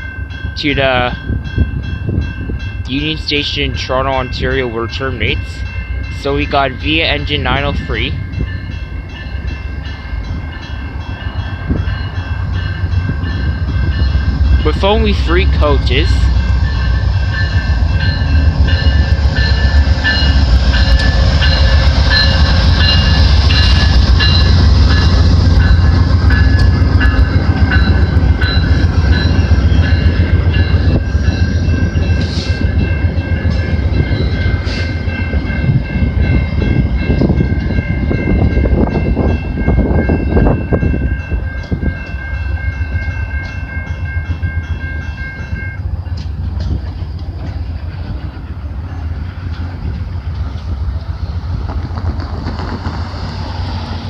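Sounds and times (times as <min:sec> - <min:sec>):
high ringing tones: 0:00.0 - 0:46.4
train rumbling past: 0:00.0 - 0:54.0.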